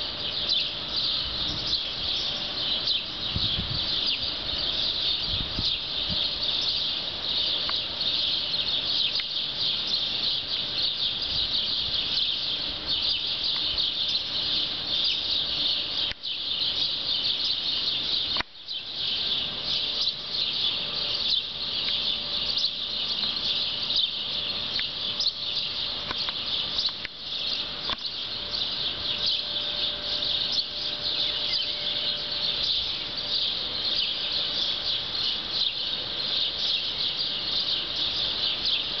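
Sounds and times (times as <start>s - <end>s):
chorus of high chirping: 0.0s - 39.0s.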